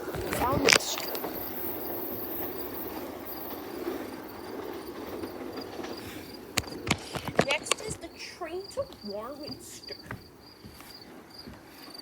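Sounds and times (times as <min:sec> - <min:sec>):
electric train rumbling on track: 0:00.0 - 0:12.0
faint insect chirps: 0:00.0 - 0:12.0.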